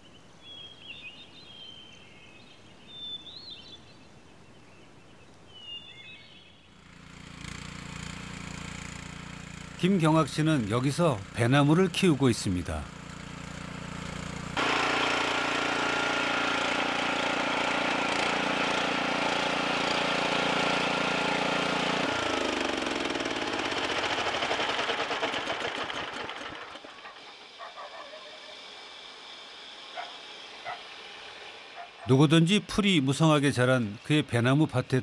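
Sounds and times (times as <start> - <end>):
small engine running: 6.6 - 35.0.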